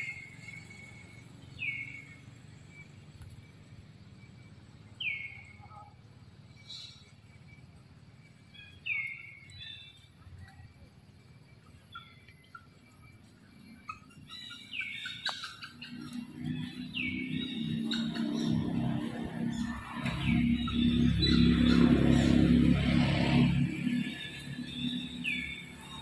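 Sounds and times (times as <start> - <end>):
faint bird chirps: 0.0 - 22.8.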